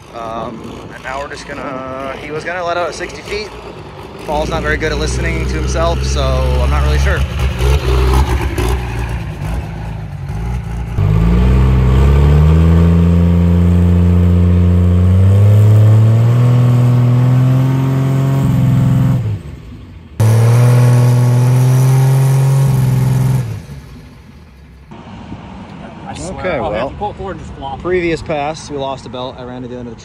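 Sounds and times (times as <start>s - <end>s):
diesel truck engine at full throttle: 0.0s - 25.0s.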